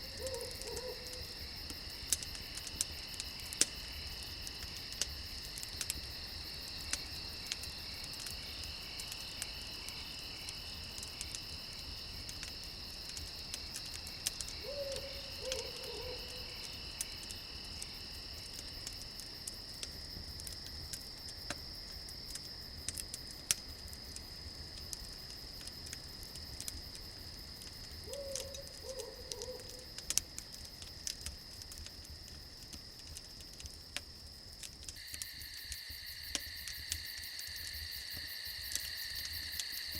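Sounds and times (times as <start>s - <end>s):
campfire crackling and popping: 0.0s - 39.9s
crickets chirring: 0.0s - 39.9s.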